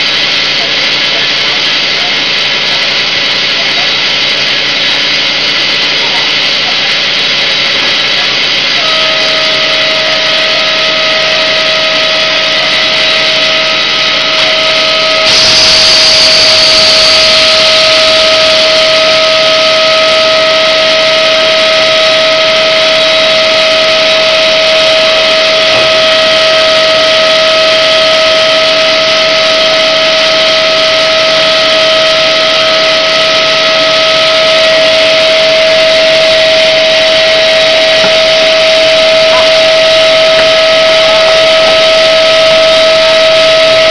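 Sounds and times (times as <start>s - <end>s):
loud hiss: 0.0s - 43.9s
machine noise with high whine: 0.0s - 43.9s.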